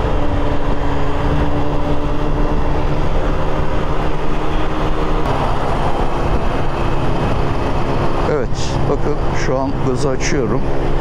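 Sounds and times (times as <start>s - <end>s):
wind noise: 0.0s - 9.8s
road rumble: 0.0s - 11.0s
scooter engine cruising: 0.0s - 11.0s.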